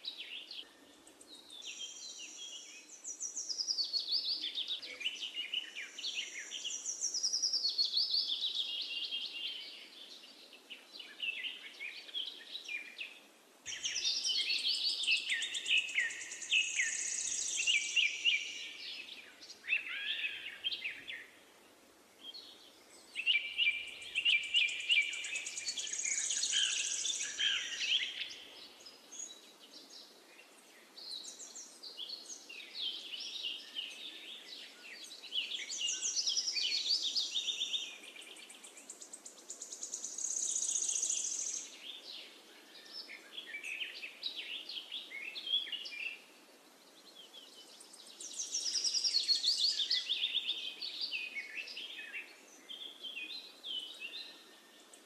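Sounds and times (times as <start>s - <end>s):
birds chirping and trilling: 0.1s - 21.4s, 22.2s - 55.0s.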